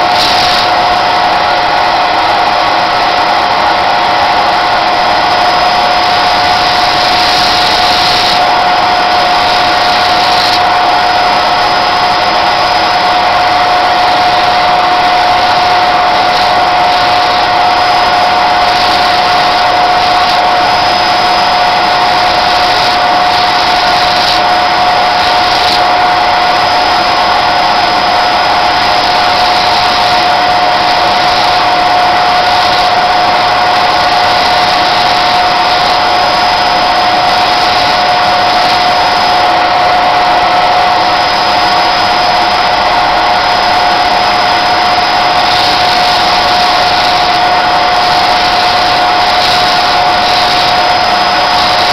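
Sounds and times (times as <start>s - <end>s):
electric motor spinning sanding disc: 0.0s - 51.9s.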